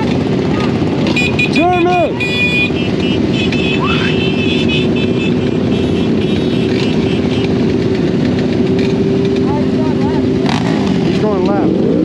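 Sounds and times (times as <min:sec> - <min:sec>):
dirt bike motor hum: 0:00.0 - 0:12.0.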